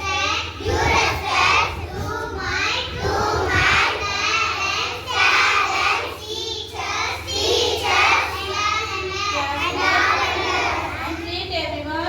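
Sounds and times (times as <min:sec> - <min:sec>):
children singing: 0:00.0 - 0:11.2.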